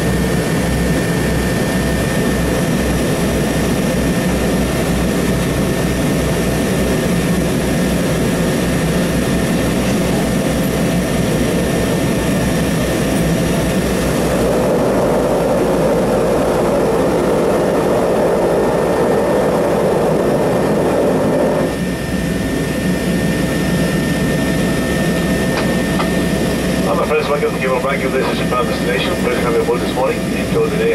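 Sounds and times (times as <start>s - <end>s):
turboprop engines running: 0.0s - 30.9s.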